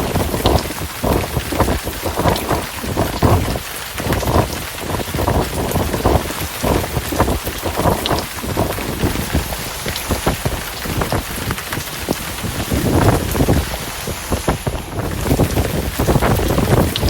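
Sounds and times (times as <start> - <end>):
heavy rain pattering: 0.0 - 17.0
thunder rumbling: 0.0 - 17.0.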